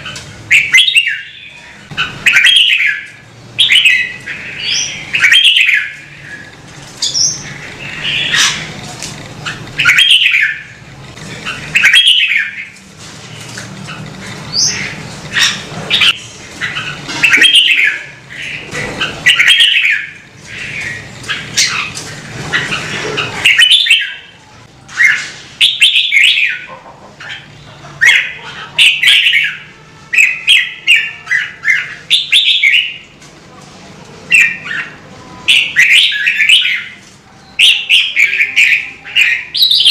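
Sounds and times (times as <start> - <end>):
bulbul singing warbled phrases: 0.0 - 8.8, 9.4 - 33.2, 34.2 - 39.9.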